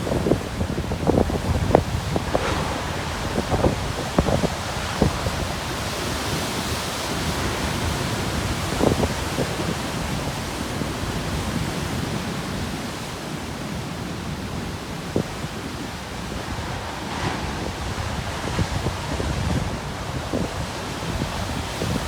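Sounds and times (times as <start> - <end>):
ocean waves breaking on rocks: 0.0 - 22.0.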